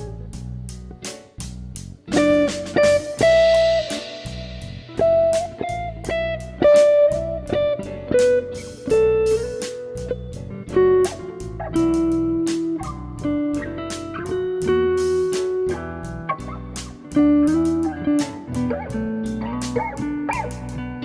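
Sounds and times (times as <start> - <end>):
bass guitar: 0.0 - 21.0
slow blues electric guitar: 0.0 - 21.0
steady drum beat: 0.0 - 21.0.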